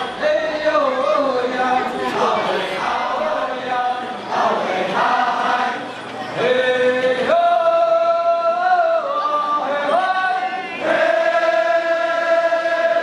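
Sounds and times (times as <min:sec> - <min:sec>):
many voices chanting together: 0:00.0 - 0:13.0.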